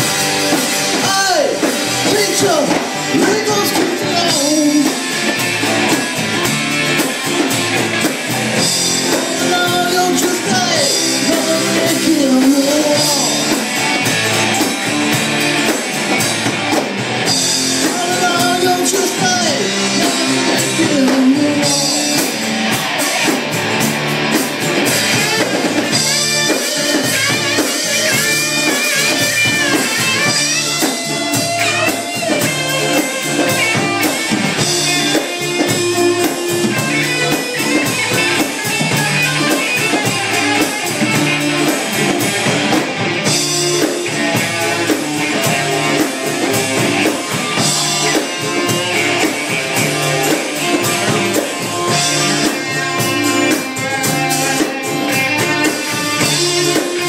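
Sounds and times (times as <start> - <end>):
drum kit hits: 0.0 - 57.0
electric guitars: 0.0 - 57.0.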